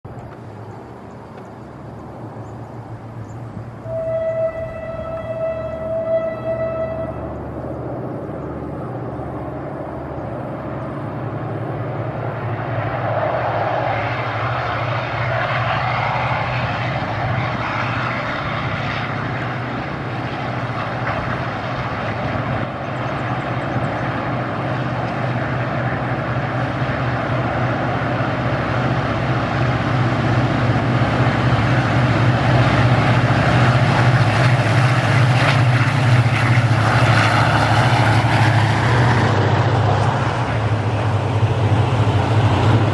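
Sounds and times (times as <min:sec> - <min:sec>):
diesel locomotive engine drone: 0:00.0 - 0:42.9.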